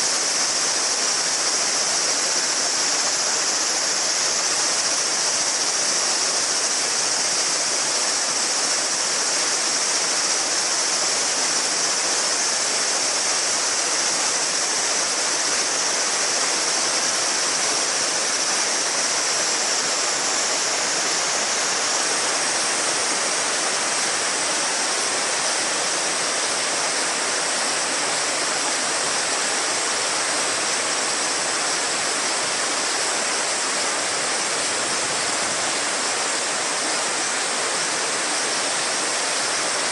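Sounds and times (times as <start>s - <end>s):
cicadas shrilling: 0.0s - 39.9s
river water babbling: 0.0s - 39.9s.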